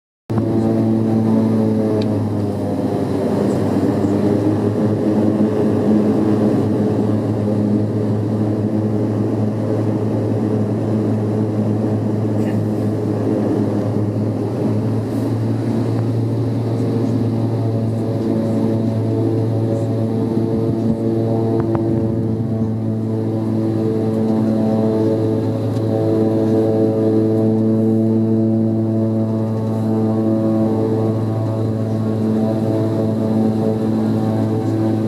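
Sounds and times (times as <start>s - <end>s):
turboprop engines droning in cabin: 0.3s - 35.0s.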